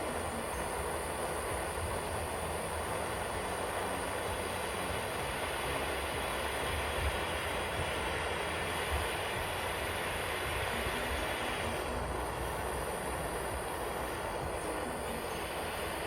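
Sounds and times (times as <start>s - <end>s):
gas torch burning: 0.0s - 16.0s.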